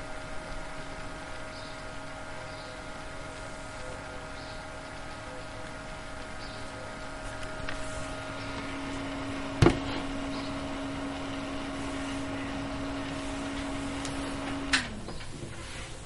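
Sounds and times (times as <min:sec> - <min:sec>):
fridge cooling fan hum: 0:00.0 - 0:16.0.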